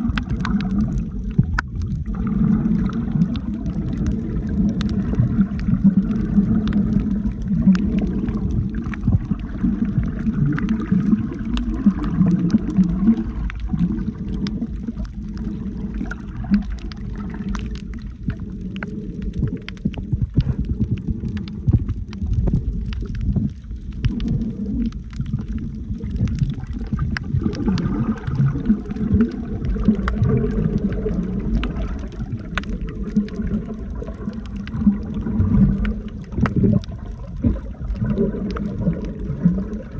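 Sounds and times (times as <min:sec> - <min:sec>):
muffled underwater water movement: 0:00.0 - 0:39.9
small clicks and crackles: 0:00.0 - 0:39.9.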